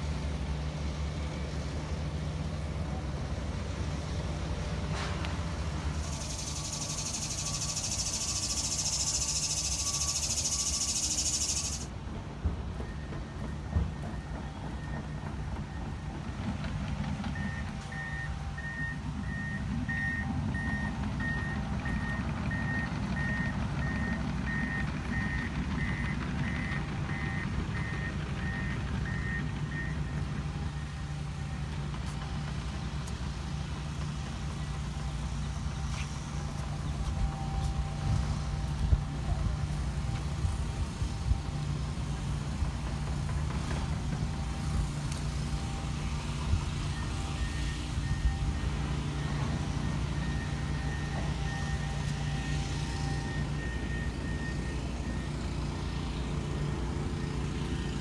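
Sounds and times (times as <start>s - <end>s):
engine running: 0.0s - 58.0s
reversing alarm beeping: 5.9s - 11.9s, 12.7s - 42.3s, 44.1s - 58.0s.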